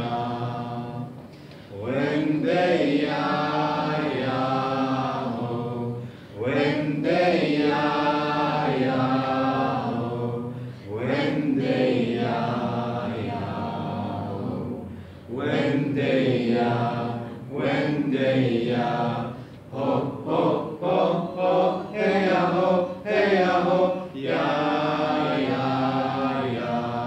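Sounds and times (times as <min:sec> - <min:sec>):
voices chanting: 0:00.0 - 0:01.2, 0:01.8 - 0:27.0.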